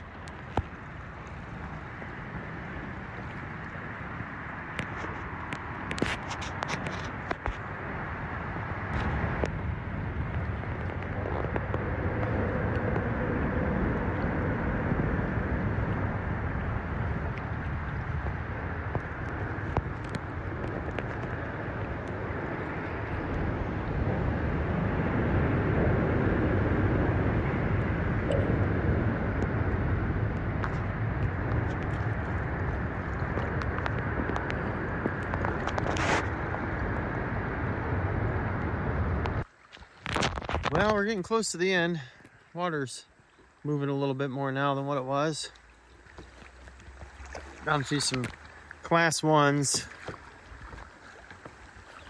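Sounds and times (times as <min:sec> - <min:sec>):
highway traffic on bridge overhead: 0:00.0 - 0:43.6, 0:44.7 - 0:52.0.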